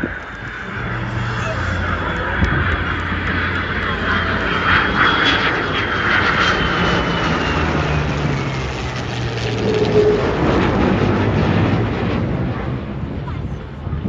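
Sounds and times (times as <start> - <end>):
high whine falling in pitch: 0.0 - 12.9
jet flying by: 0.0 - 14.0.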